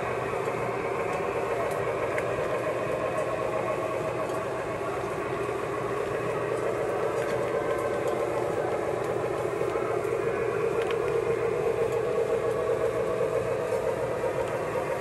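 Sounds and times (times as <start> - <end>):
constant low hum: 0.0 - 15.0
model train rumbling on track: 0.0 - 15.0.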